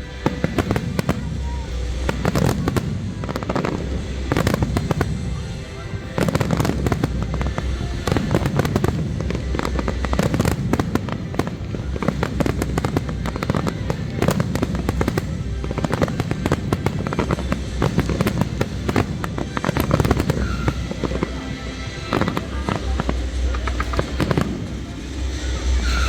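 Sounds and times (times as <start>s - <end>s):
firework bangs and crackles: 0.0s - 26.0s.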